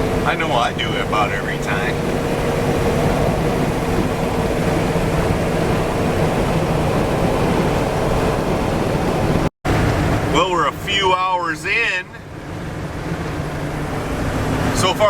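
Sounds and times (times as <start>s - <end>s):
road and wind noise: 0.0s - 15.0s
truck engine droning: 0.0s - 15.0s.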